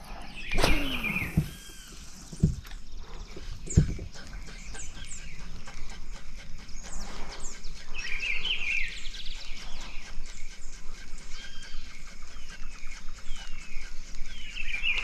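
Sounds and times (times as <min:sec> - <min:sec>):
bird trilling: 0:00.0 - 0:15.0
birds whistling: 0:00.0 - 0:15.0.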